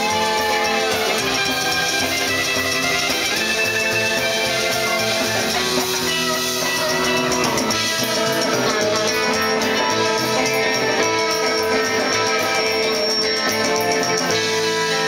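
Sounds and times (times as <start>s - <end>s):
rockabilly band playing live: 0.0s - 15.0s.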